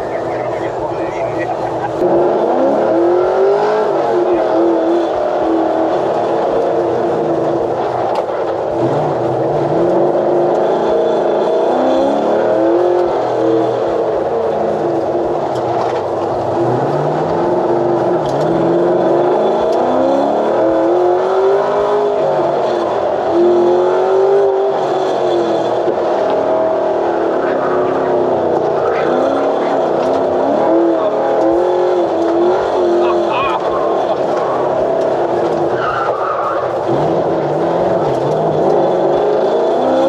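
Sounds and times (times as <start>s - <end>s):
truck engine revving hard: 0.0s - 40.0s.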